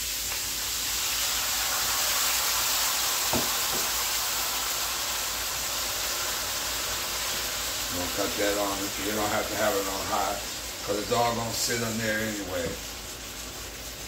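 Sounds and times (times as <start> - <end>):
vegetables sizzling in a skillet: 0.0 - 14.0.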